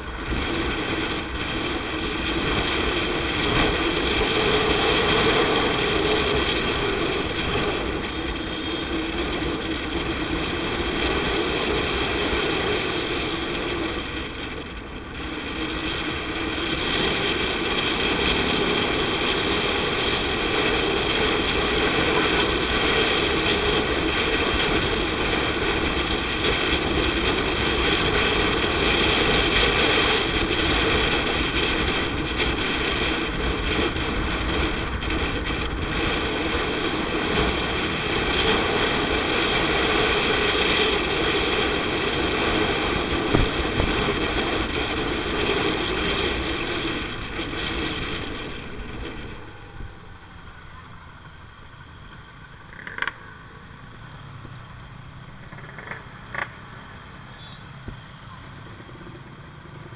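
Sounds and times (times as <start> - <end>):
motorcycle engine droning: 0.0 - 59.9
road noise: 0.0 - 59.9.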